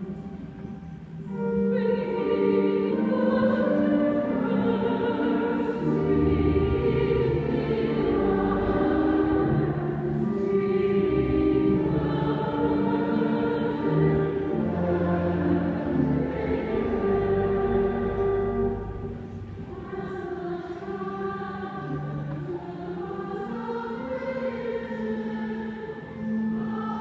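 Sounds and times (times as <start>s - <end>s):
choir singing a slow hymn: 0.0s - 27.0s.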